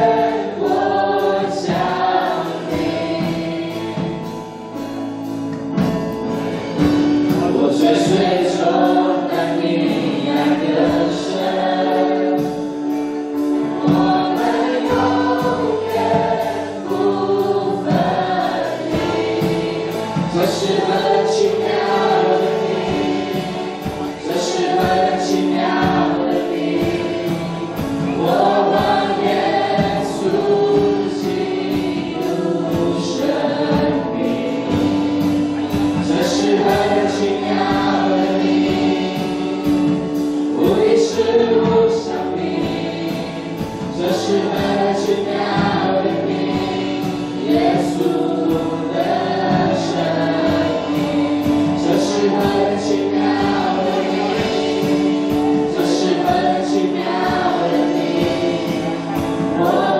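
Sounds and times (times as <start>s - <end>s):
man and women singing: 0.0s - 4.5s, 6.4s - 59.9s
acoustic guitar: 0.0s - 59.9s.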